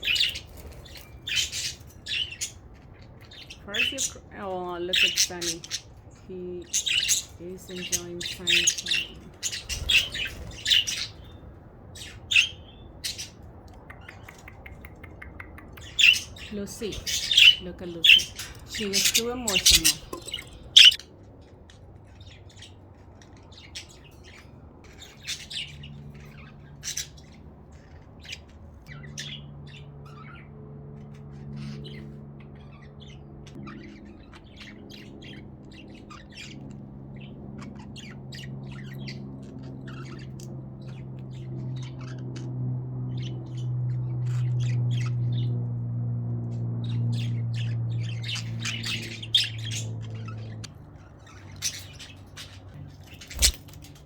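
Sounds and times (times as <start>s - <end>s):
budgerigars chirping and squawking: 0.0s - 42.5s, 43.1s - 45.6s, 46.7s - 54.0s
low steady hum: 0.0s - 54.0s.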